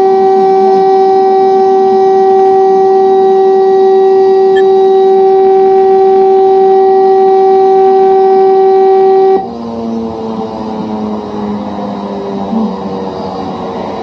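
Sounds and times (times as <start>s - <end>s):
loud steady horn tone: 0.0s - 14.0s
low wavering drone: 0.0s - 14.0s.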